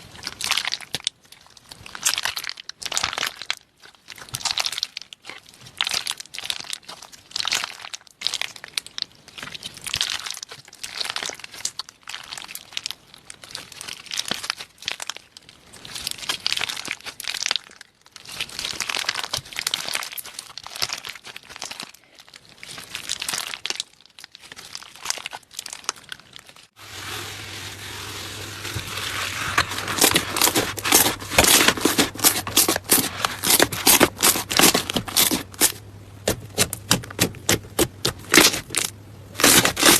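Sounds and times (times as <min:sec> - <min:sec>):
slime crackling: 0:00.0 - 0:39.9.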